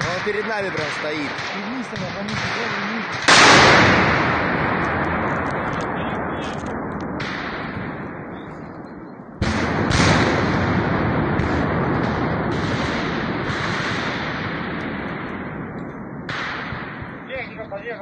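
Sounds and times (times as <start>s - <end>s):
loud explosions: 0.0s - 18.0s.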